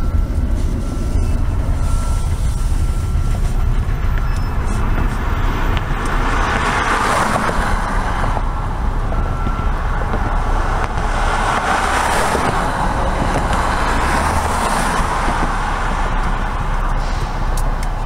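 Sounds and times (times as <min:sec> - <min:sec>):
road and tyre noise: 0:00.0 - 0:18.0.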